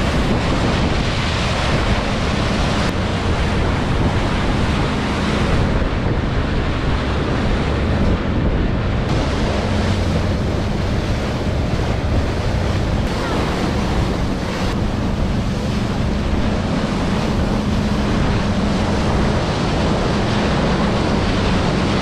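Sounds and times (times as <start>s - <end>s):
boat engine hum: 0.0s - 22.0s
water rushing past boat hull: 0.0s - 22.0s
wind buffeting microphone: 0.0s - 22.0s.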